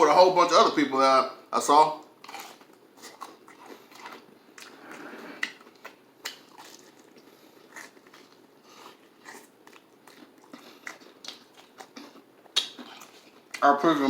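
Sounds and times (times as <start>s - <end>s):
chewing crispy fried chicken: 2.0s - 14.0s.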